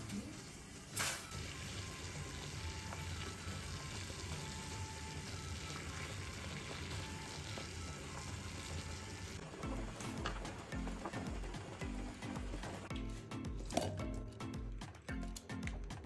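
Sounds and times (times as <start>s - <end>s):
water boiling hard: 0.0s - 12.9s.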